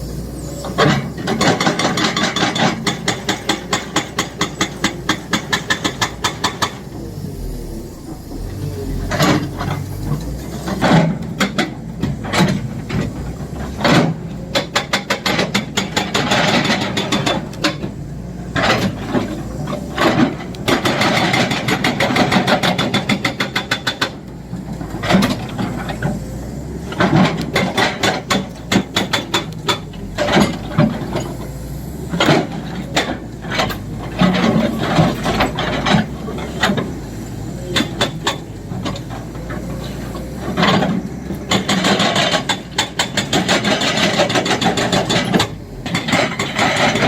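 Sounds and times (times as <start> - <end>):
excavator engine running: 0.0 - 47.0
hydraulic breaker hammering rock: 0.7 - 26.2, 26.8 - 31.4, 32.1 - 39.6, 40.4 - 47.0.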